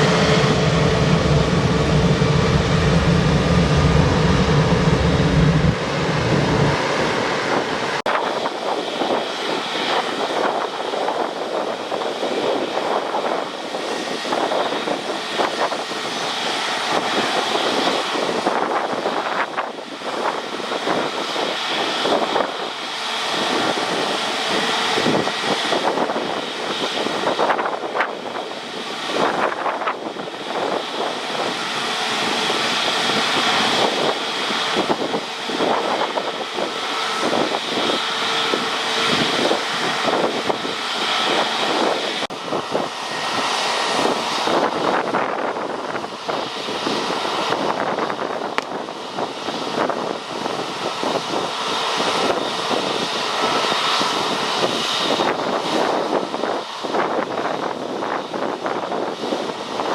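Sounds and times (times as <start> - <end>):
jet engines whining rush: 0.0 - 59.9.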